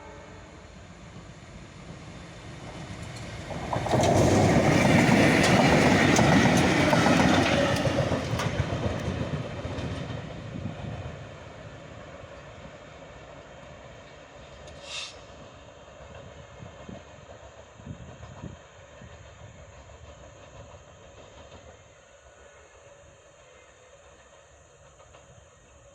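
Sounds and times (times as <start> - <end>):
train wheels clacking on rails: 1.0 - 25.9.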